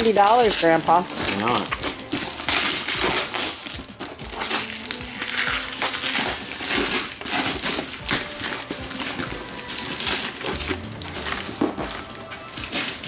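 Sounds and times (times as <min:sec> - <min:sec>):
bags and wrapping crinkling: 0:00.0 - 0:13.0.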